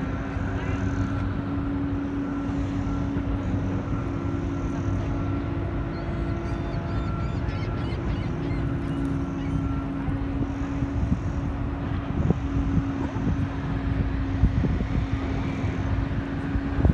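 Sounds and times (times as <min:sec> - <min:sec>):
machinery drone: 0:00.0 - 0:16.9.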